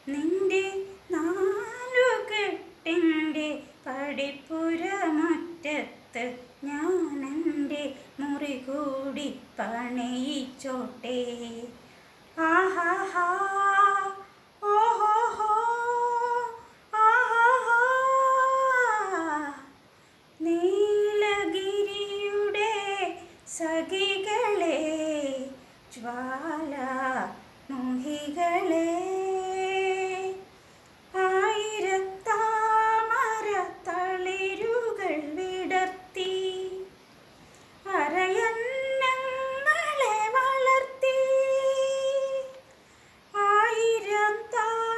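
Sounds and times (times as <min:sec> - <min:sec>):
woman singing unaccompanied: 0:00.0 - 0:44.9.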